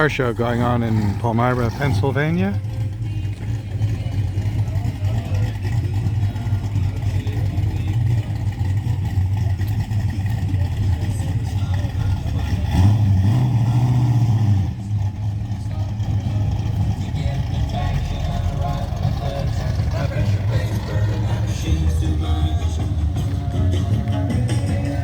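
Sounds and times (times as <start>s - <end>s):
car engine rumbling and revving: 0.0s - 25.0s.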